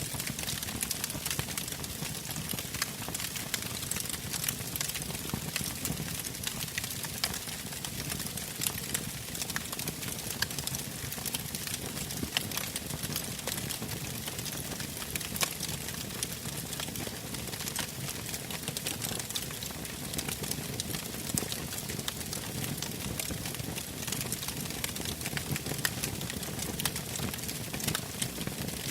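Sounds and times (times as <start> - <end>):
bonfire crackling and popping: 0.0 - 28.9.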